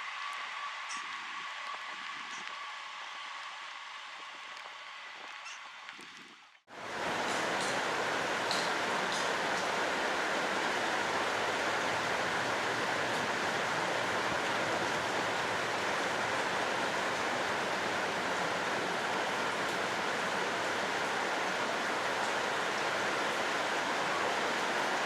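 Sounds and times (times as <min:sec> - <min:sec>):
rushing hiss of wind and rain: 0:00.0 - 0:25.0.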